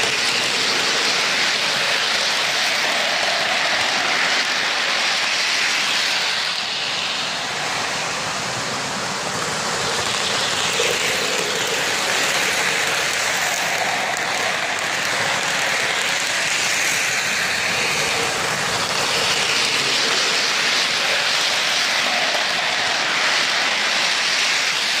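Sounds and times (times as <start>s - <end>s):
model train wheels rolling: 0.0s - 25.0s.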